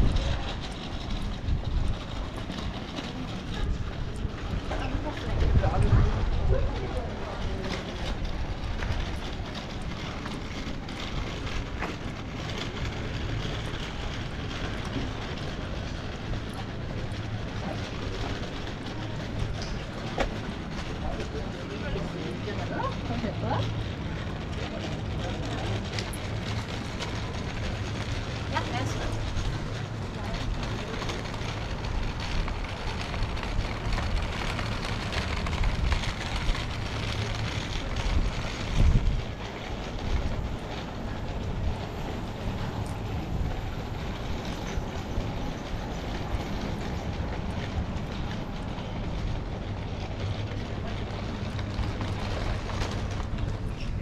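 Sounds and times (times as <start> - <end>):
low city rumble: 0.0 - 54.0.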